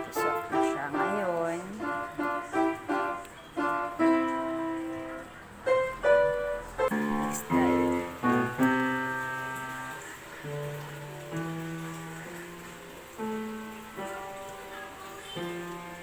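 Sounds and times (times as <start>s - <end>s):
child playing piano: 0.0s - 16.0s.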